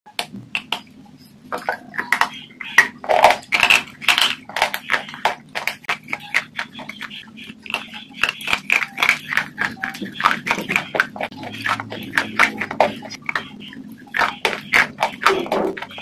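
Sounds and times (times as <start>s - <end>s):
crunching while chewing food: 1.6s - 16.0s.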